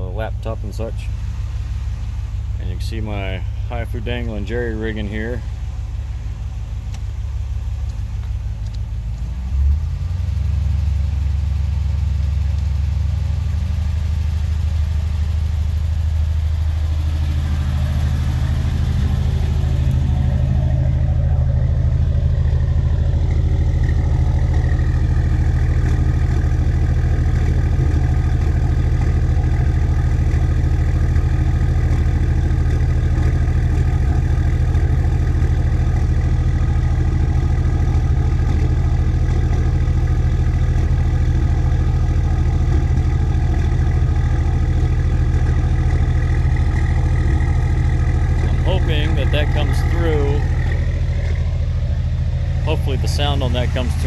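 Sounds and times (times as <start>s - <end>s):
car engine idling with misfire: 0.0s - 54.0s.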